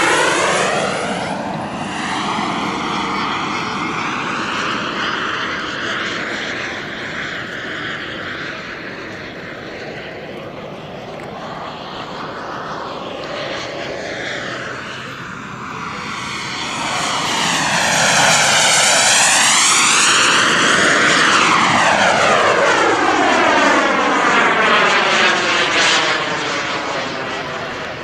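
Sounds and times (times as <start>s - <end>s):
model jet turbine whine: 0.0s - 28.0s.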